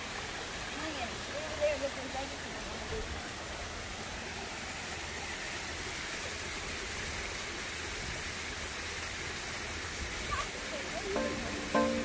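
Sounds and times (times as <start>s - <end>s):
creek running over rocks: 0.0s - 12.0s
small waterfall rushing: 0.0s - 12.0s.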